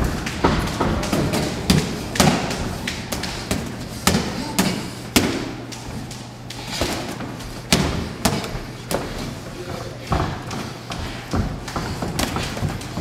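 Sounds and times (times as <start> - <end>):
boxing gloves punching thuds: 0.0 - 5.8, 6.5 - 9.4, 10.1 - 13.0.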